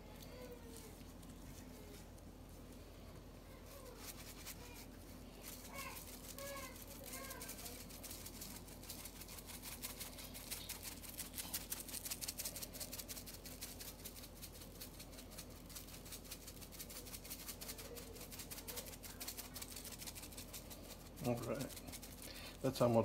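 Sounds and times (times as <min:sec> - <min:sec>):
seasoning pattering onto meat: 0:03.6 - 0:23.0
seasoning shaker rattling: 0:03.6 - 0:23.0.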